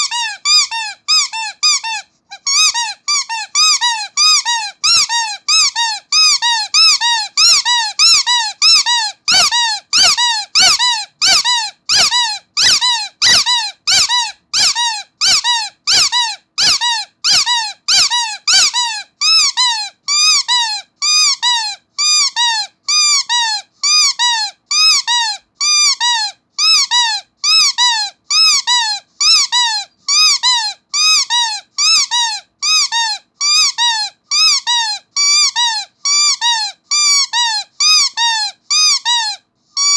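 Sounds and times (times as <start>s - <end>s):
squeaky toy squeaking: 0.0s - 39.9s.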